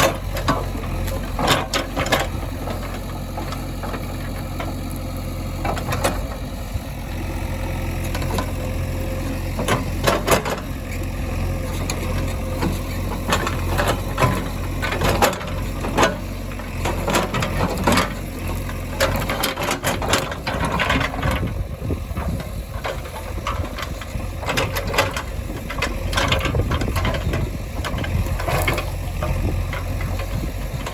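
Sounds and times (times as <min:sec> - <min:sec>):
diesel machinery rumbling: 0:00.0 - 0:30.9.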